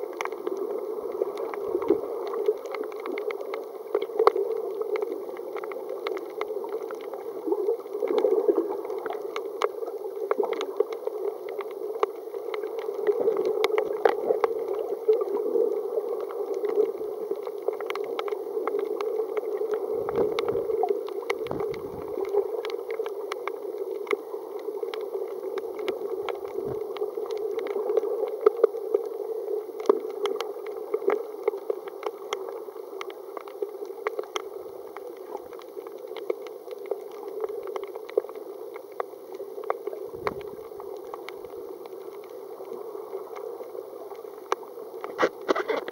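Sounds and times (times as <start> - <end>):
crackling clicks: 0.0 - 45.9
muffled underwater rush: 0.0 - 45.9.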